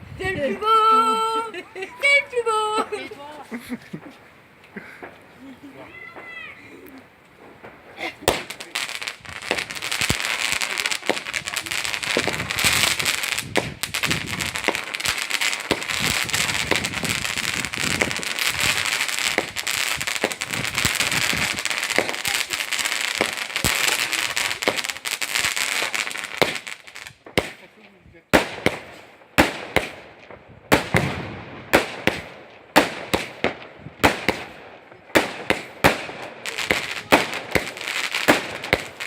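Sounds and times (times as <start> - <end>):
fireworks crackling and popping: 0.0 - 39.0
firework bangs: 4.8 - 6.4, 7.3 - 39.0.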